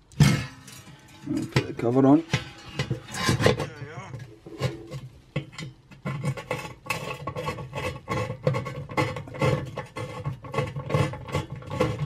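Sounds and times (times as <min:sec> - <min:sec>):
metal clicks scrapes and knocks: 0:00.1 - 0:12.0.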